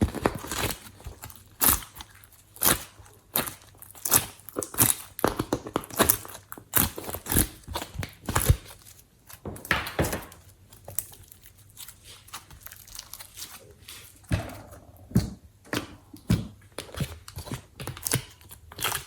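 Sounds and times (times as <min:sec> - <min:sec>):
hands squishing sticky slime: 0:00.0 - 0:19.0.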